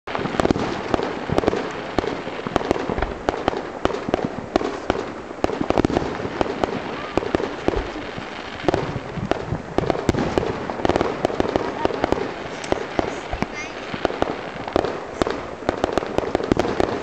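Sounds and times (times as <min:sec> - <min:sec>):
background wash: 0:00.1 - 0:17.0
fireworks bursting bangs: 0:00.1 - 0:17.0.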